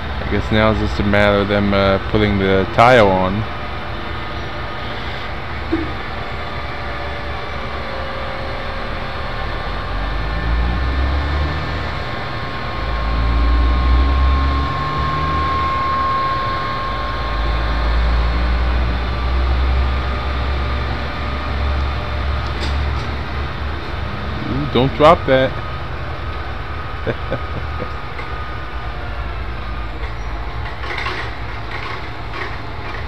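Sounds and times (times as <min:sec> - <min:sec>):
crane engine rumbling: 0:00.0 - 0:33.0
faint high whine: 0:00.0 - 0:33.0.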